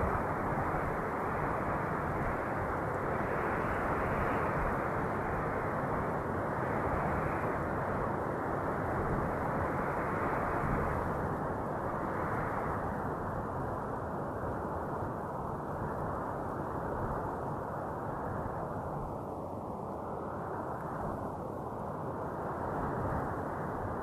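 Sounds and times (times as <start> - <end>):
steady wind rushing: 0.0 - 24.0.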